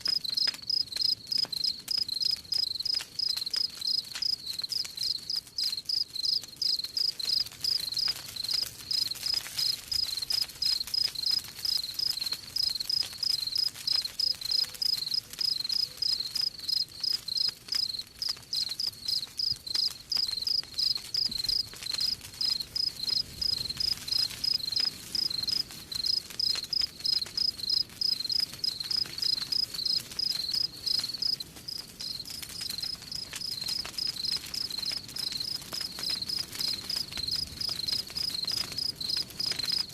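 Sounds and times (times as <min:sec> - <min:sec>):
campfire crackling: 0:00.0 - 0:39.9
cricket chirping: 0:00.1 - 0:39.9.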